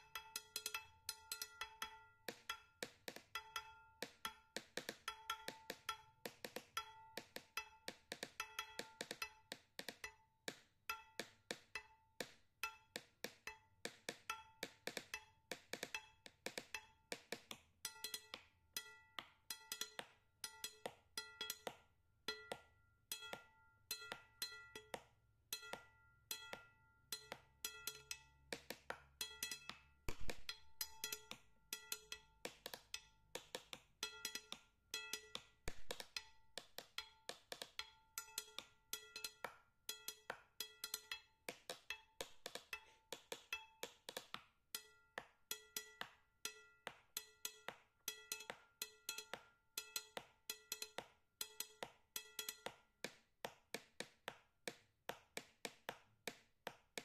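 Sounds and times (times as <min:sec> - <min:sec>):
percussive wood-block tune: 0:00.0 - 0:54.1.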